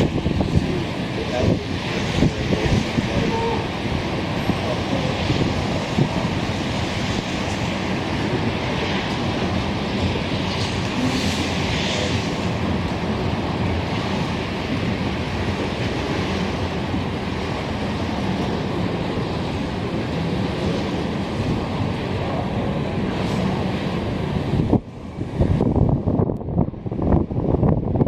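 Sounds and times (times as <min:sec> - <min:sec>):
freight train cars rolling: 0:00.0 - 0:27.7
wind buffeting microphone: 0:00.0 - 0:28.0.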